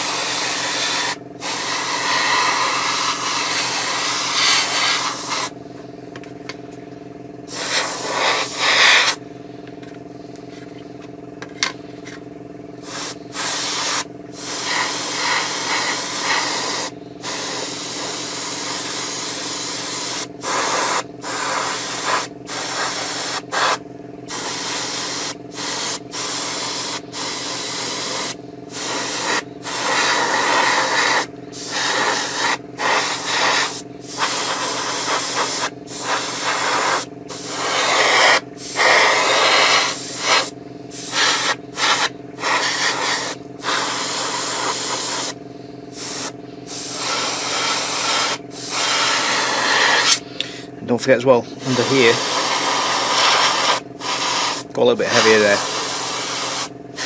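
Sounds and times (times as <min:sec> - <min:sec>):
airbrush spraying hiss: 0:00.0 - 0:05.6, 0:07.5 - 0:09.2, 0:12.8 - 0:50.4, 0:51.6 - 0:57.0
steady low hum: 0:00.0 - 0:57.0.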